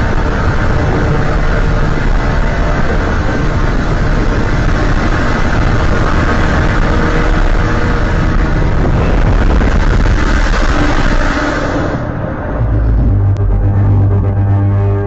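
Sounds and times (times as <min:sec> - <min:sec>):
dense monster rumble: 0:00.0 - 0:15.0.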